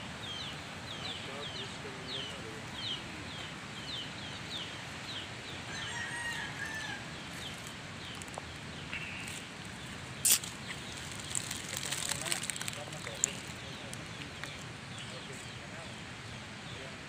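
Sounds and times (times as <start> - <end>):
bird chirping: 0.0 - 17.0
outdoor background noise: 0.0 - 17.0.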